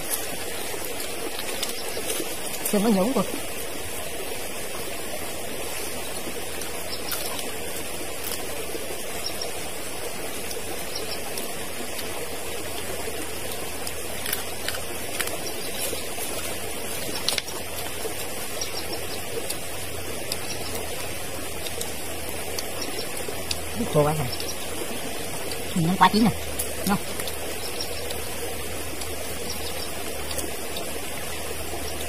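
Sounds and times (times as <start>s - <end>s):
stream running: 0.0s - 32.0s.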